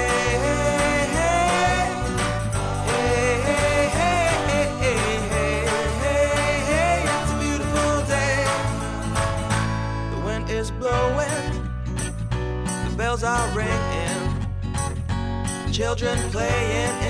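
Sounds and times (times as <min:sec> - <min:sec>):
instrumental pop music: 0:00.0 - 0:17.0.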